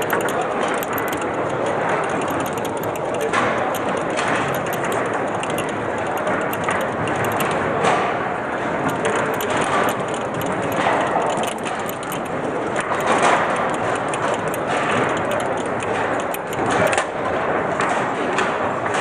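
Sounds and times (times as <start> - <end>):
background din: 0.0 - 7.7, 8.9 - 17.0.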